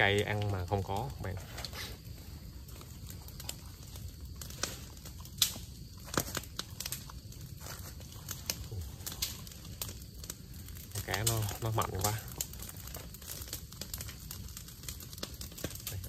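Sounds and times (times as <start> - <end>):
dry leaves and twigs rustling: 0.0 - 16.0.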